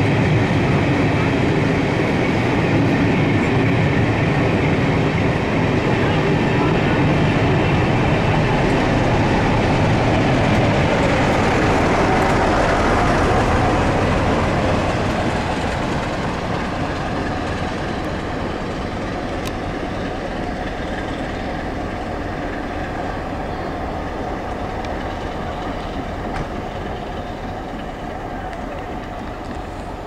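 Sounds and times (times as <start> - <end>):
train passing on rails: 0.0 - 30.0.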